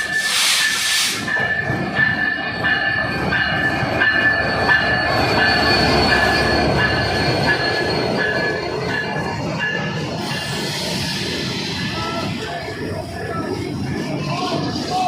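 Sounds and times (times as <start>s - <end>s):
carriages rumbling on track: 0.0s - 15.0s
train wheels squealing on rails: 0.0s - 15.0s.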